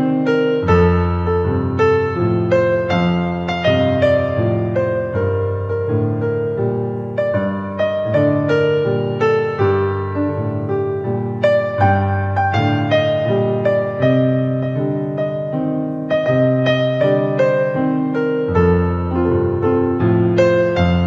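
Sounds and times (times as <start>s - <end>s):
piano-toned keyboard music: 0.0s - 21.0s.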